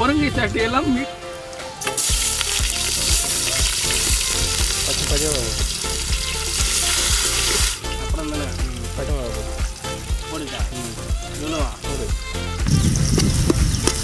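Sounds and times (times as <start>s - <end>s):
onions sizzling in oil: 1.8s - 14.0s.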